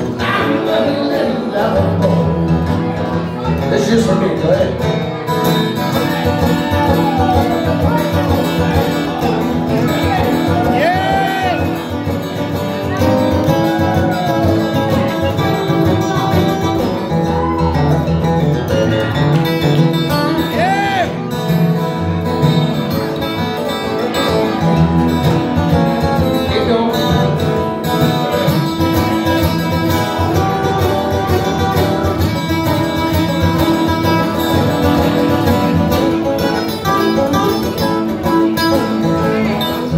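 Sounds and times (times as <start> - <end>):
acoustic guitars playing country: 0.0 - 39.9.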